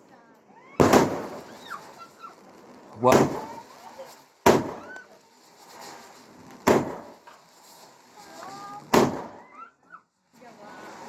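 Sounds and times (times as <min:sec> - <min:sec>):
fireworks bangs with echo: 0:00.5 - 0:11.0.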